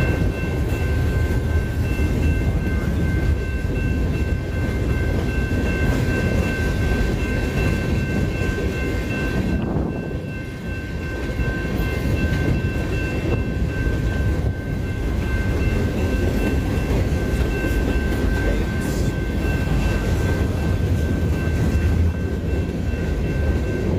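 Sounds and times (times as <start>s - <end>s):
freight train rumbling on rails: 0.0s - 23.9s.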